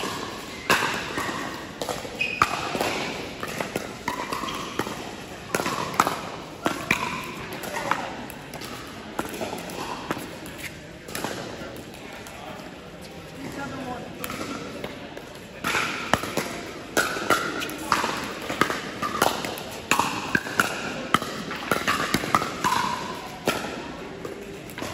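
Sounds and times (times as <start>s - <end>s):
paddles hitting plastic ball: 0.0s - 12.3s, 14.1s - 24.9s
murmur of voices: 0.0s - 24.9s.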